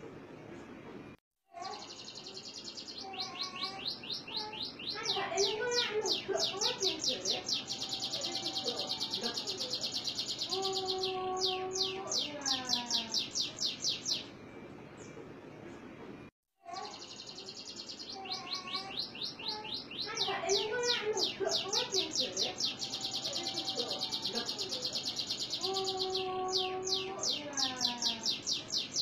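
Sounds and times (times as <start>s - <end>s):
canary singing fast trills: 1.7s - 14.3s, 16.8s - 29.0s.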